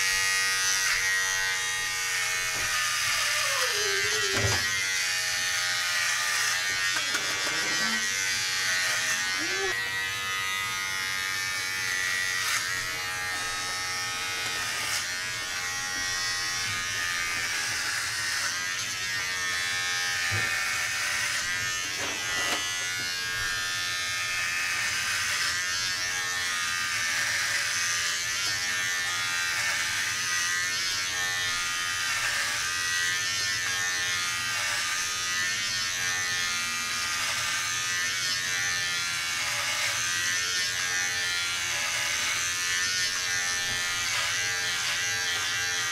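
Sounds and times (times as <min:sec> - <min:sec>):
hair clipper buzzing: 0:00.0 - 0:45.9.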